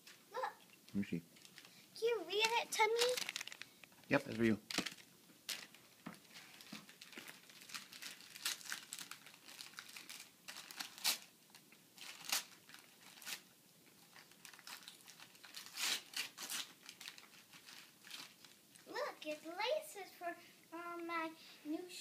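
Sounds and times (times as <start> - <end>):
wrapping paper crinkling and tearing: 1.4 - 19.5.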